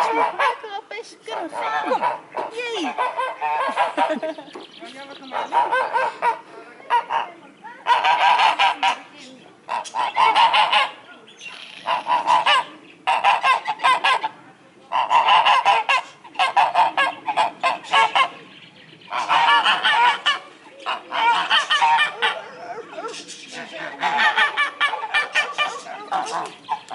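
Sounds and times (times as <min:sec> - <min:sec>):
geese honking: 0:00.0 - 0:26.9.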